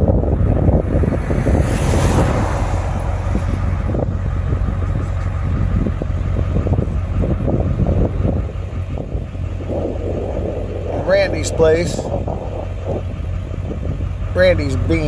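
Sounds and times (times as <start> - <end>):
car engine and road rumble: 0.0 - 15.0
wind buffeting microphone: 0.0 - 15.0.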